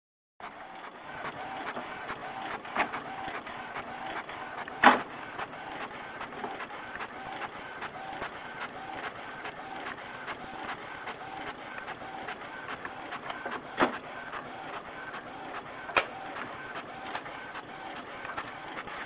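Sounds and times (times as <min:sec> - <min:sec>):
fax machine printing whir: 0:00.4 - 0:19.0.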